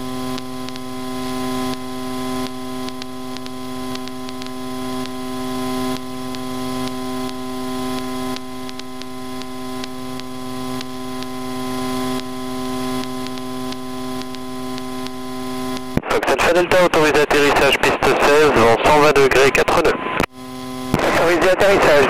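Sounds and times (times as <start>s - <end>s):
light aircraft engine humming: 0.0s - 22.0s.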